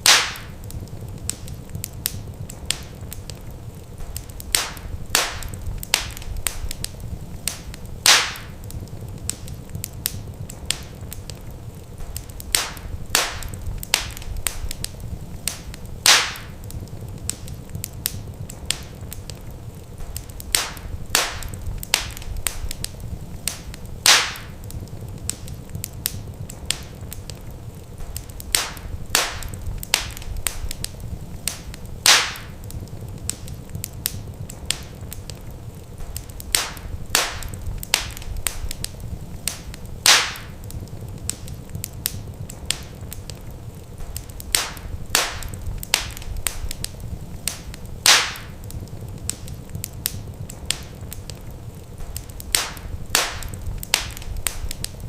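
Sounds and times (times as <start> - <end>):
burning logs crackling and popping: 0.0 - 55.0
wood fire rumble and hiss: 0.0 - 55.0.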